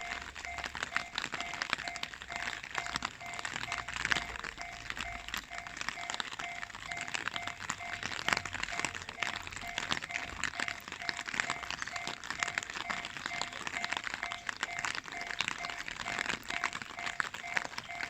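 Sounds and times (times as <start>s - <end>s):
dense crackling noise: 0.0s - 18.0s
level crossing warning bell: 0.0s - 18.0s.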